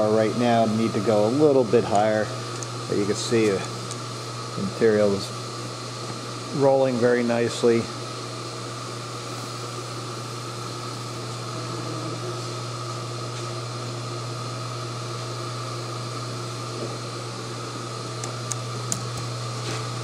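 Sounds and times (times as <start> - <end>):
fan-like hiss: 0.0 - 20.0
induction furnace humming: 0.0 - 20.0.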